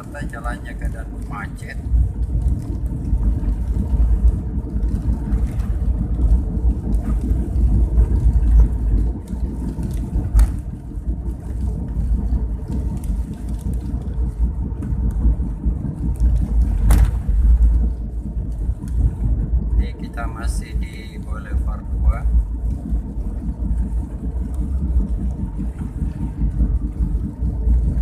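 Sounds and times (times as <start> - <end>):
vehicle driving on road: 0.0 - 28.0.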